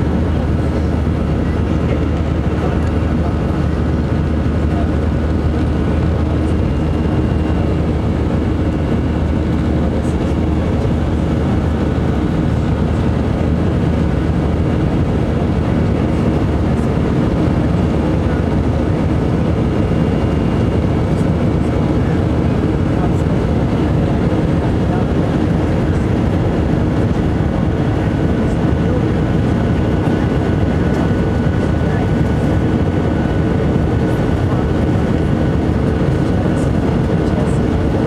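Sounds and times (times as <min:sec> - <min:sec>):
aircraft cabin engine hum: 0:00.0 - 0:38.0.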